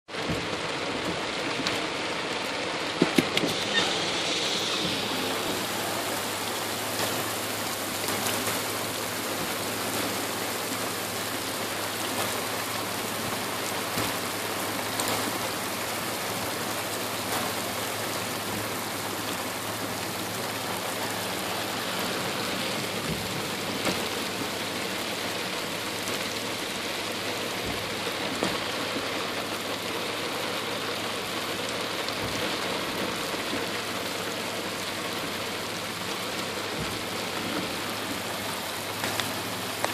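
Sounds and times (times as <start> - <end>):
heavy rain on a car: 0.1 - 39.9.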